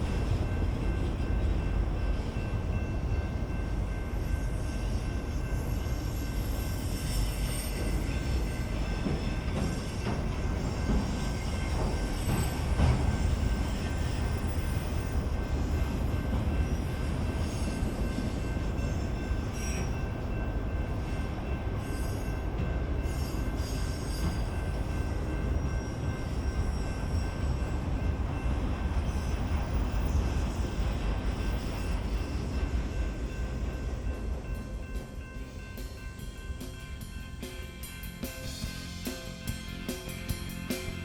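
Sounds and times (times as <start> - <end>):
freight train rumbling: 0.0 - 41.0.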